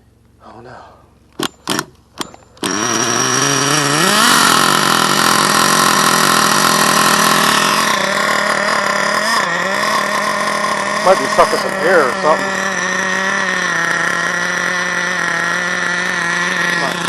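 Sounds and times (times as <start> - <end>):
model engine running fast: 1.4 - 17.0.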